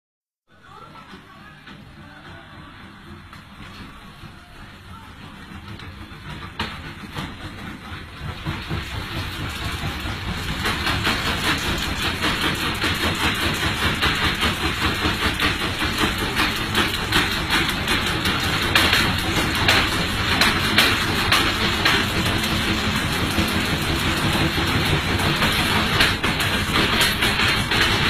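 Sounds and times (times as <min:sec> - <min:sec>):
washing machine clattering spin: 0:00.5 - 0:28.0.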